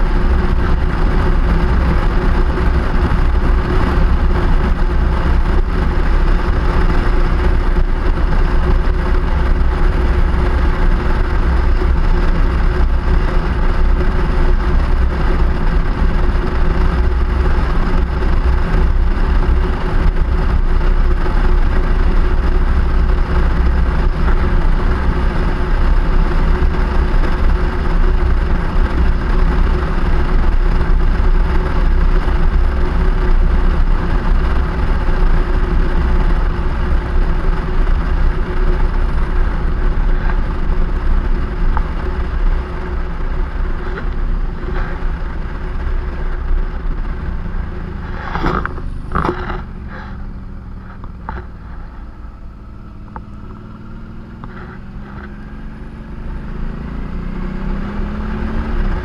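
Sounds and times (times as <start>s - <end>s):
constant low hum: 0.0s - 59.0s
vehicle road noise: 0.0s - 59.0s.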